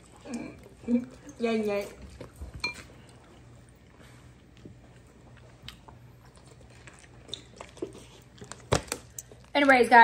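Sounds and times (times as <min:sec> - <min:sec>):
chewing: 0:00.0 - 0:09.7.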